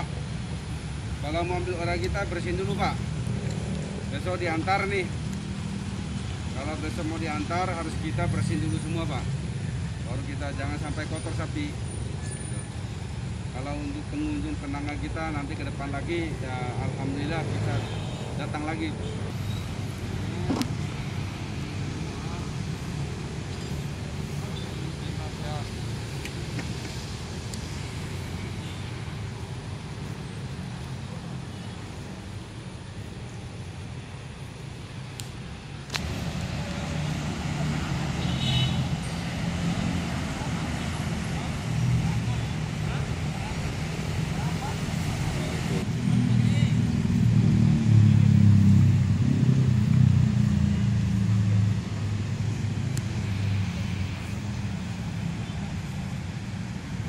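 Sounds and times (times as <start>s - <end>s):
road traffic hum: 0.0s - 57.0s.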